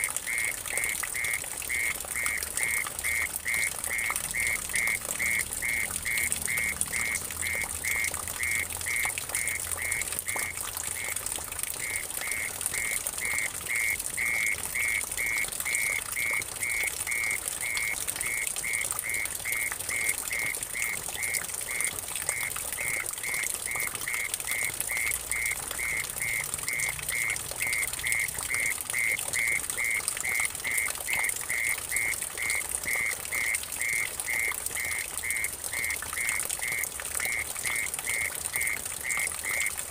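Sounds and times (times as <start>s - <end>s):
water dripping into puddle: 0.0s - 39.9s.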